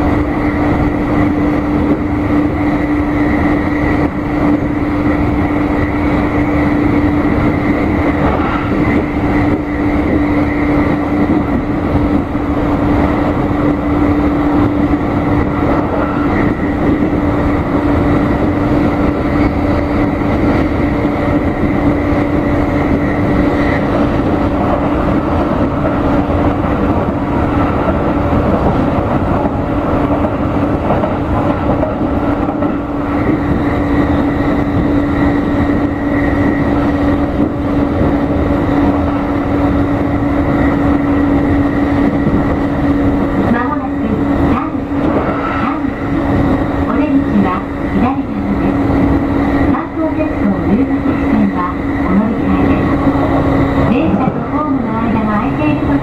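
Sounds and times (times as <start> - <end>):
constant hum: 0.0 - 56.0
train wheels rumbling: 0.0 - 56.0.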